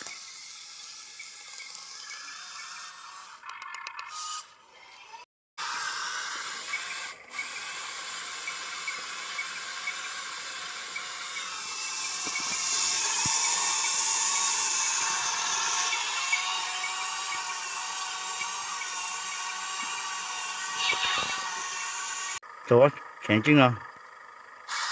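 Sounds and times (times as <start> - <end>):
electric motors whining: 0.0 - 22.4, 23.0 - 24.9.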